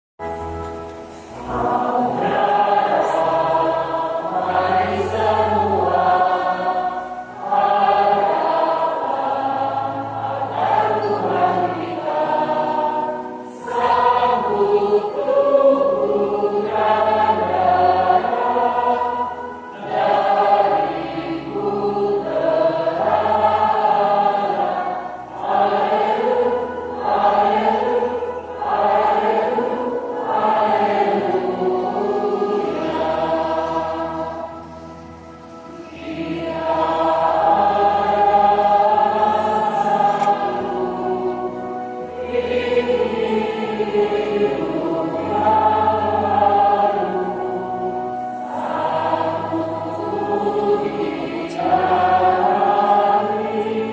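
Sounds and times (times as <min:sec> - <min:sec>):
choir singing a hymn: 0:00.2 - 0:53.9.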